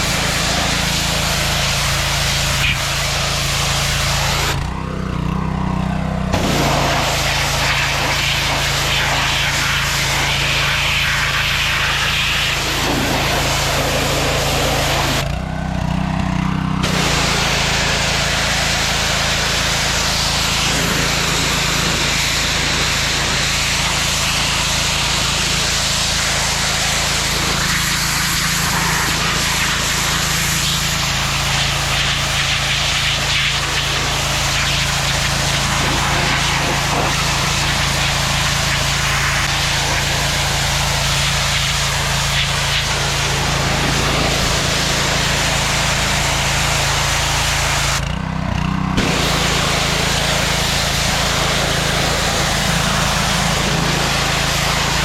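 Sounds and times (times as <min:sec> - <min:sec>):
power tool running: 0:00.0 - 0:55.0.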